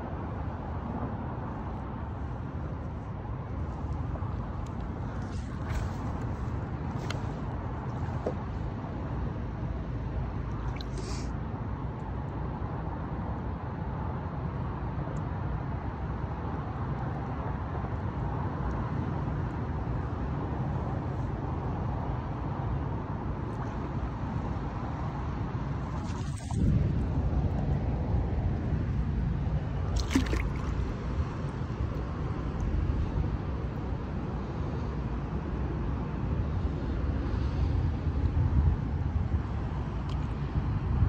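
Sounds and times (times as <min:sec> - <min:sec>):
low rumbling background noise: 0:00.0 - 0:41.0.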